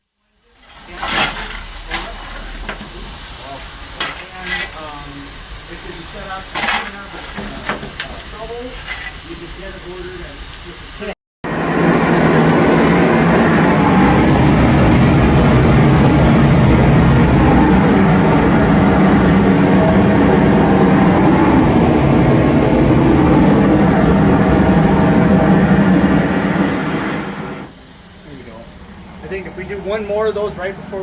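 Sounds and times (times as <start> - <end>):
heavy machinery humming: 0.4 - 31.0.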